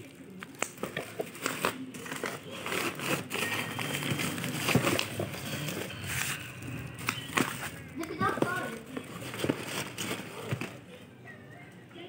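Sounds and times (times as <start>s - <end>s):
bubble wrap crinkling: 0.0s - 10.9s.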